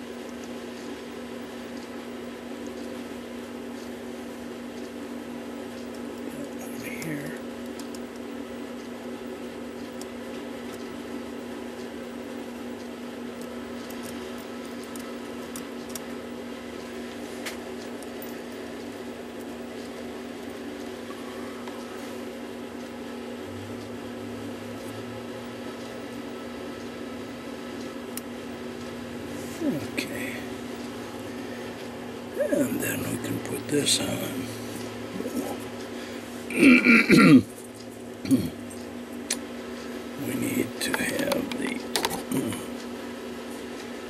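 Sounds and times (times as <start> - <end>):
lower hum: 0.0 - 43.4
appliance hum: 0.0 - 44.0.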